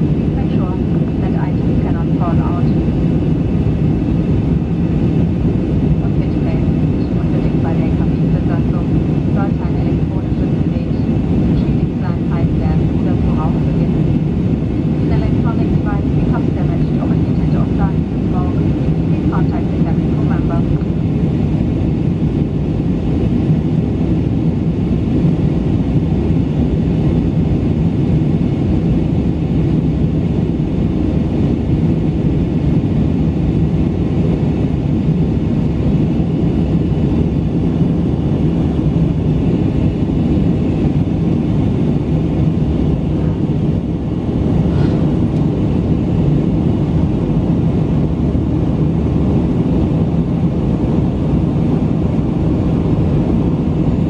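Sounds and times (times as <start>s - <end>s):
jet engine cabin rumble: 0.0s - 54.0s.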